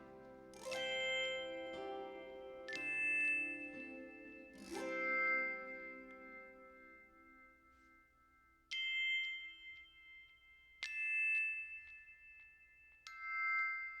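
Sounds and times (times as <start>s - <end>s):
struck bell ringing: 0.0s - 14.0s.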